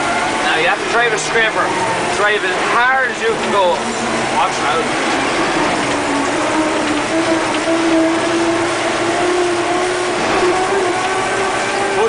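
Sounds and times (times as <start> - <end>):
diesel engine working hard: 0.0 - 12.0.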